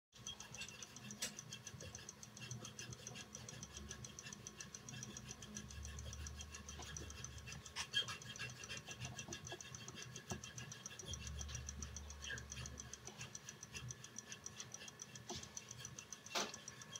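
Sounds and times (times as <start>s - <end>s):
fast even ticking: 0.1s - 16.9s.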